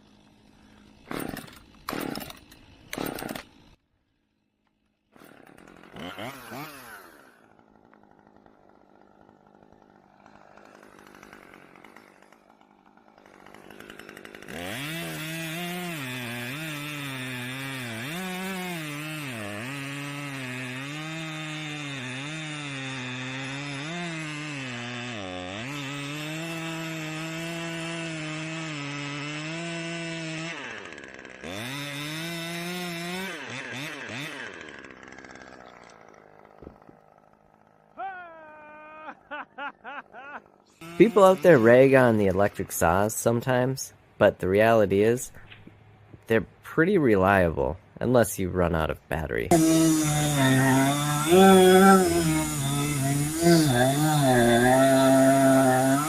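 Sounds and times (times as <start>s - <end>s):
chainsaw running at high revs: 0.0s - 43.8s, 46.2s - 56.0s.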